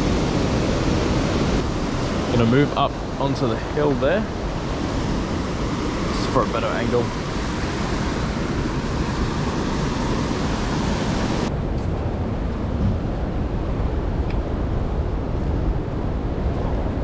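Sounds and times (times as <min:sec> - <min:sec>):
surf washing on rocky shore: 0:00.0 - 0:17.0
wind rumble on microphone: 0:00.0 - 0:17.0.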